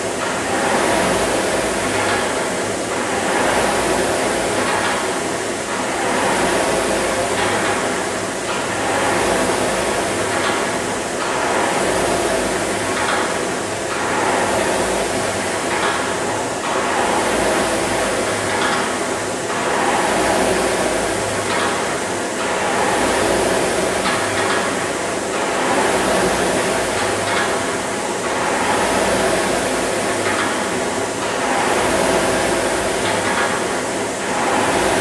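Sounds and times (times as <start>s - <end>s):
rowing machine flywheel whirring: 0.0s - 35.0s.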